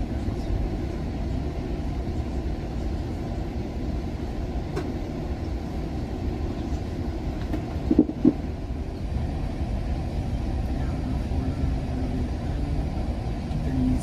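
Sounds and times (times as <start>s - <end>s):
train rumble from inside car: 0.0s - 14.0s.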